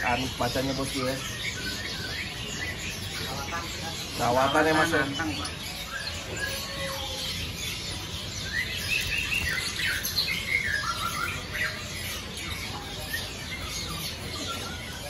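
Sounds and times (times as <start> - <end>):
songbirds chirping and whistling: 0.0 - 15.0.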